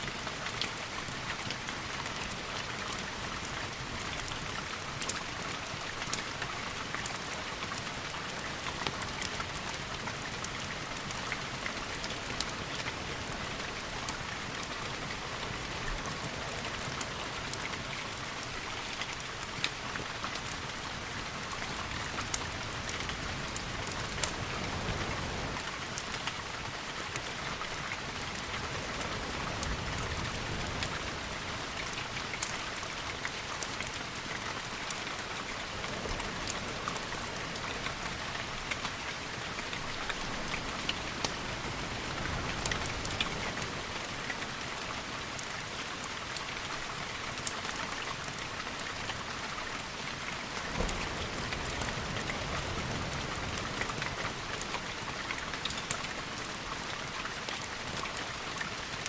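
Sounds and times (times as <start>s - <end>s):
sharp crackles and ticks: 0.0s - 59.0s
steady rain falling: 0.0s - 59.0s.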